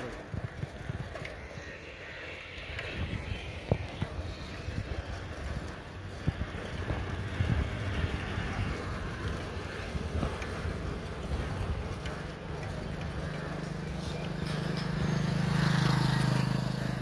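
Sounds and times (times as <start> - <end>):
steady low rumble: 0.0 - 15.1
wind buffeting microphone: 0.0 - 17.0.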